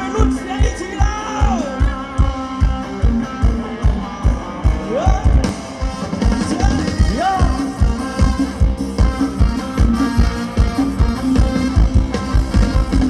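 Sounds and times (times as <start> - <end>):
dance music from a band: 0.0 - 13.0
fast drum beat: 0.0 - 13.0.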